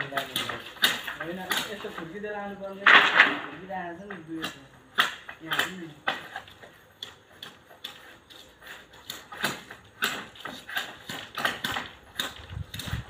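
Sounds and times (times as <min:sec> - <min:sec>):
bamboo poles clacking: 0:00.0 - 0:13.0.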